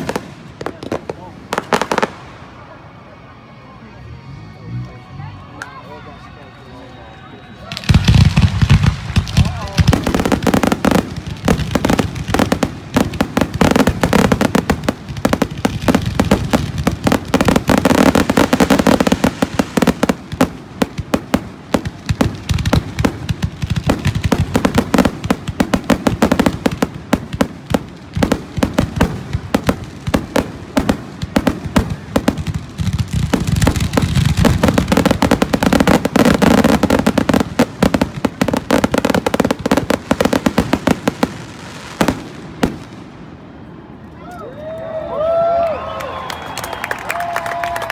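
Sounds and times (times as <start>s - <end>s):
fireworks bangs and crackles: 0.0s - 2.8s, 7.6s - 43.6s.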